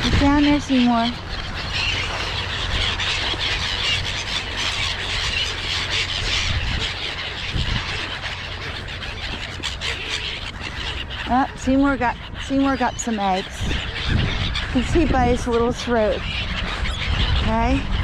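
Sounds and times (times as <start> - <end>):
wind rumble on microphone: 0.0 - 8.5, 10.5 - 18.0
flock of small birds chirping: 0.0 - 18.0.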